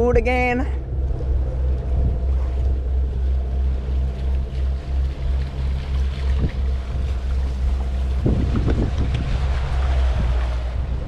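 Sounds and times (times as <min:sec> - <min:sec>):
boat engine humming: 0:00.0 - 0:11.0
water wash: 0:00.0 - 0:11.0
wind: 0:00.0 - 0:11.0.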